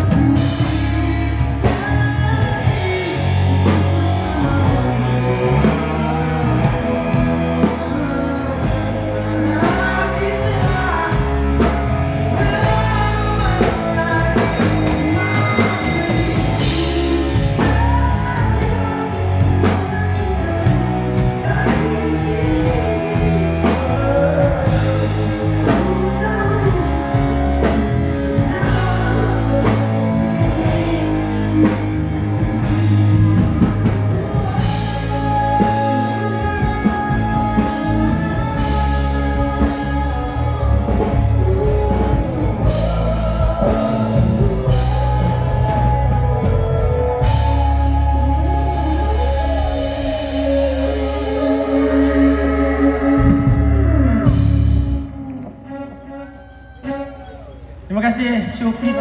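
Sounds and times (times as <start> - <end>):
electric guitar: 0.0 - 59.0
person singing: 0.0 - 59.0.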